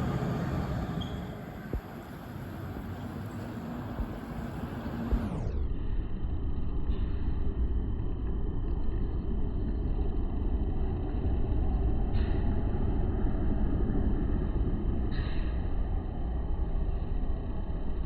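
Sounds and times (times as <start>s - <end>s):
low rumbling outdoor background: 0.0s - 18.0s.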